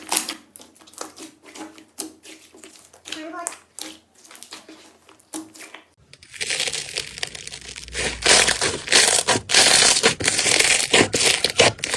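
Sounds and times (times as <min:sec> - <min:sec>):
slime squeezed crackling: 0:00.0 - 0:11.9.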